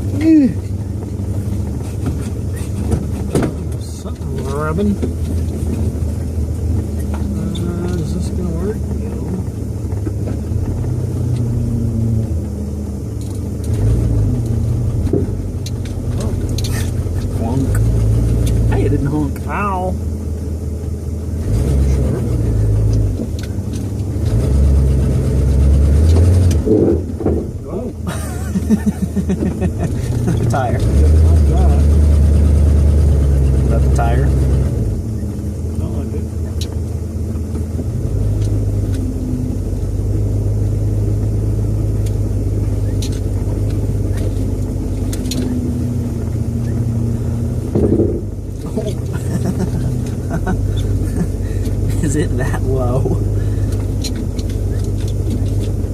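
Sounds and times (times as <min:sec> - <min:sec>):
car engine drone inside cabin: 0:00.0 - 0:55.9.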